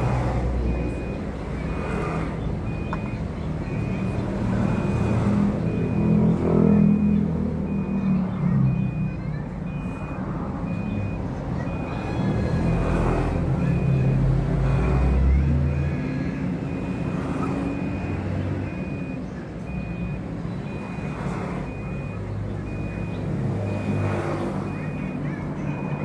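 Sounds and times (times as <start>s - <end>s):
reversing alarm beeping: 0.0s - 26.0s.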